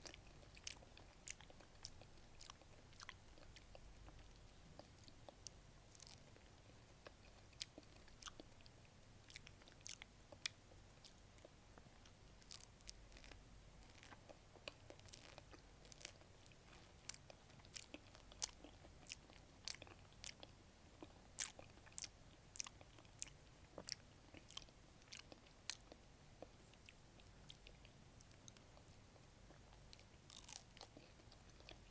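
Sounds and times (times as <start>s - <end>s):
chewing peach: 0.0s - 31.9s.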